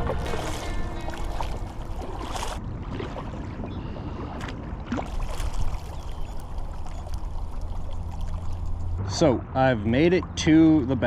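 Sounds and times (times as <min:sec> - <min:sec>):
paddle strokes splashing: 0:00.0 - 0:09.0.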